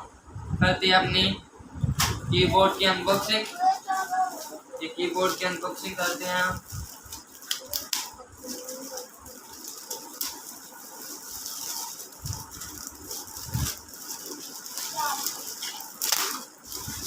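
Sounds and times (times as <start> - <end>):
packaging rustling and scraping: 2.7 - 17.0.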